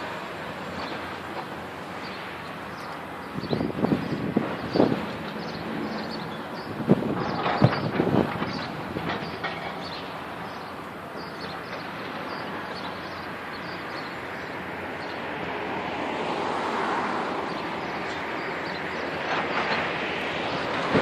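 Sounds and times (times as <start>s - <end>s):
diesel excavator engines: 0.0s - 21.0s.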